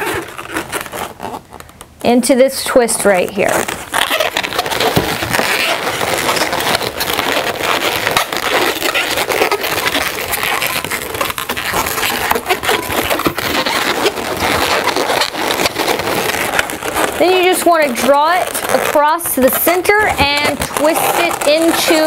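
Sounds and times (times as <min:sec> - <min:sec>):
balloons rubbing and crackling: 0:00.0 - 0:22.0.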